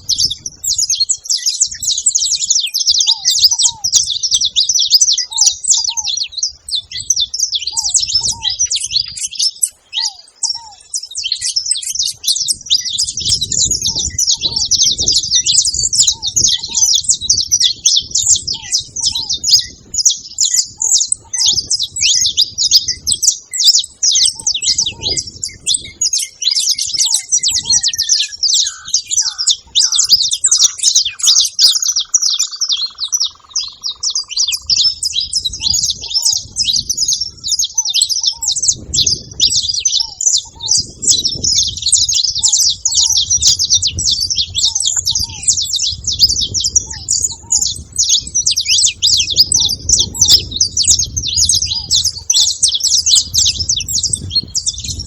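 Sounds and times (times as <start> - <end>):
finches chirping: 0.0 - 55.0.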